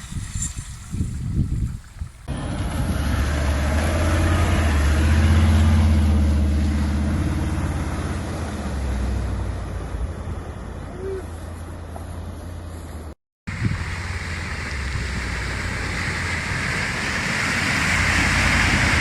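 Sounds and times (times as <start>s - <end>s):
off-road vehicle engine driving by: 2.2s - 19.0s.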